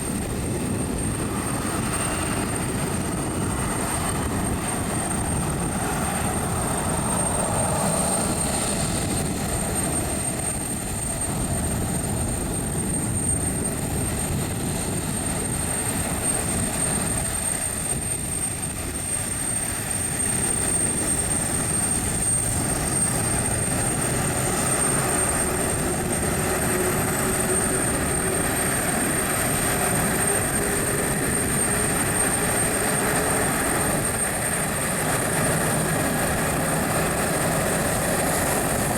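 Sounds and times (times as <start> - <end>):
jet engines roaring with whine: 0.0 - 38.9.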